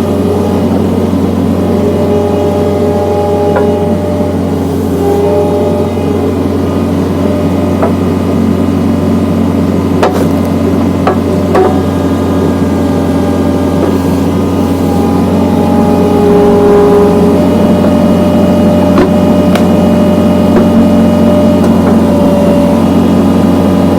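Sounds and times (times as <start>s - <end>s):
skid steer engine running: 0.0s - 23.9s.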